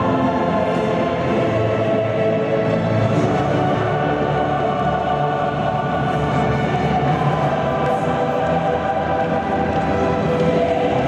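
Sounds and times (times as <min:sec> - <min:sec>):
choir singing long notes: 0:00.0 - 0:11.0.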